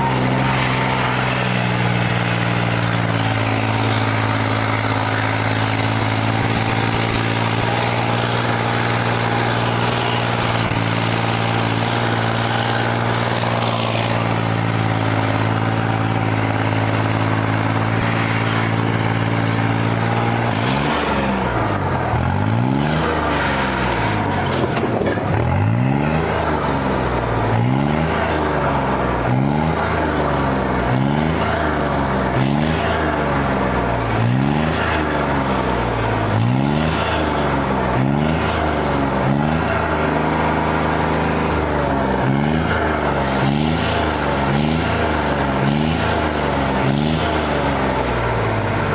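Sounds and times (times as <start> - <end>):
tractor diesel engine revving: 0.0 - 48.9.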